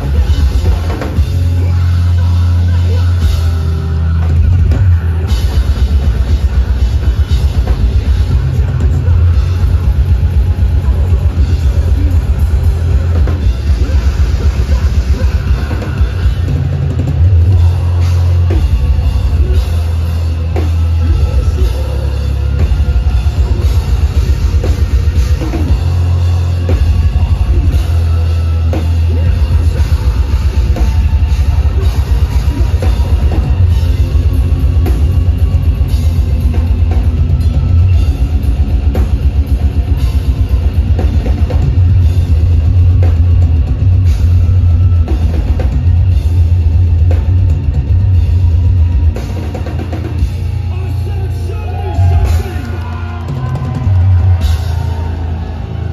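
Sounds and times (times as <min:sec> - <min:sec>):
distorted electric guitar: 0:00.0 - 0:55.9
fast pounding drums: 0:00.0 - 0:55.9.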